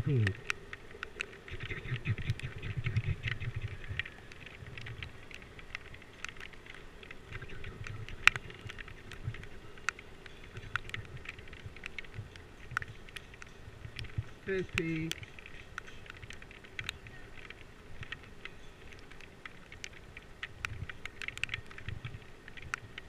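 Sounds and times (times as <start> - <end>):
raindrops ticking on camera housing: 0.0 - 23.0.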